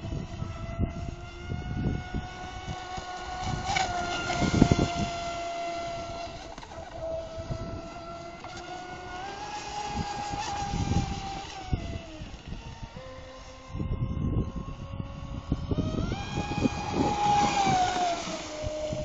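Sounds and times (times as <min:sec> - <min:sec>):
electric motor high whine: 0:00.0 - 0:19.0
wind buffeting microphone: 0:00.0 - 0:19.0.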